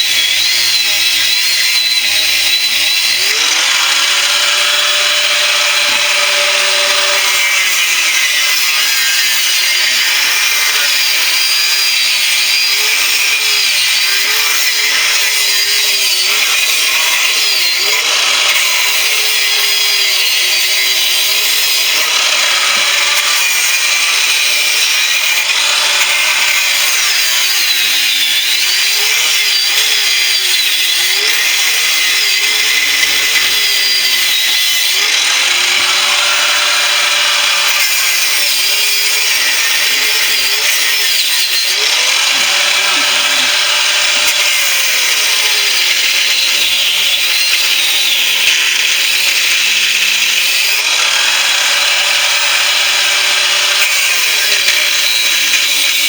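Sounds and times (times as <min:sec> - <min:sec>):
cutting disc grinding metal: 0:00.0 - 0:56.0.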